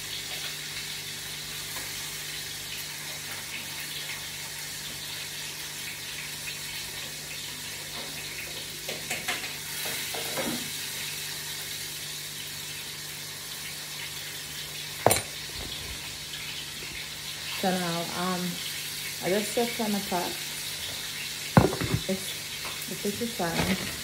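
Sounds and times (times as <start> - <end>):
fish sizzling in oil: 0.0 - 23.7.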